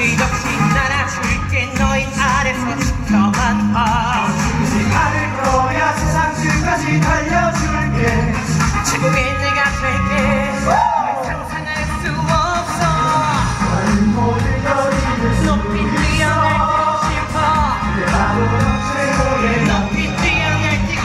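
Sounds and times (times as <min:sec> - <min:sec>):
backing track with steady beat: 0:00.0 - 0:21.0
person singing: 0:00.0 - 0:21.0.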